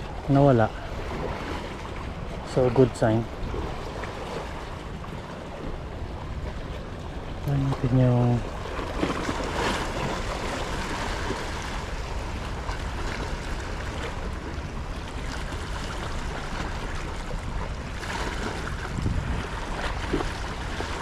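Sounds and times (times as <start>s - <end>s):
sea water lapping at shore: 0.0s - 21.0s.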